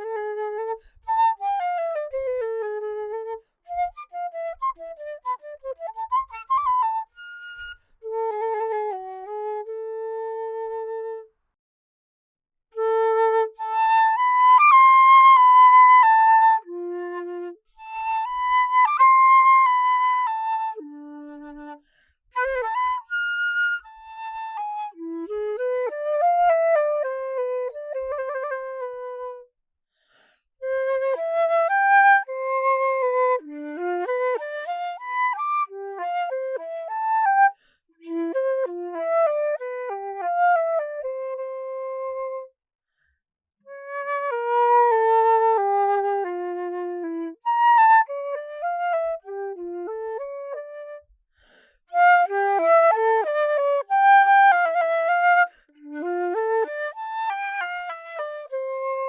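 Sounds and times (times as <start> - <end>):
solo flute melody: 0.0 - 11.4, 12.7 - 29.5, 30.6 - 42.6, 43.6 - 59.0.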